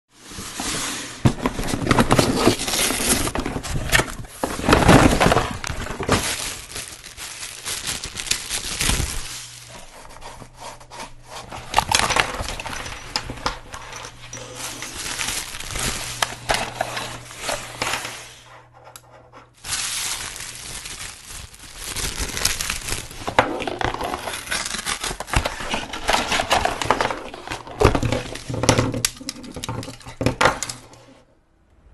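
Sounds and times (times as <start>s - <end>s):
cardboard rustling and tearing: 0.3s - 18.4s, 19.6s - 30.9s
plastic bags crinkling: 1.4s - 9.8s, 11.5s - 18.1s, 19.6s - 31.0s.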